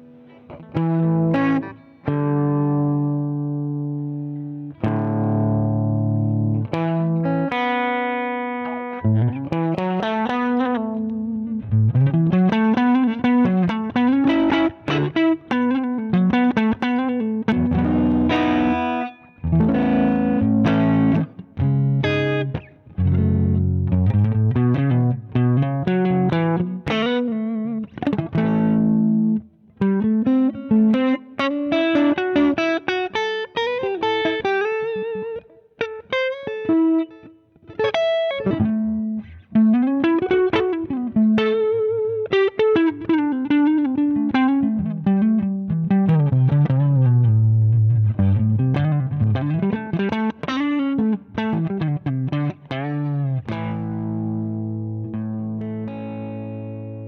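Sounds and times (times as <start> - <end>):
overdriven electric guitar lead: 0.0 - 57.0.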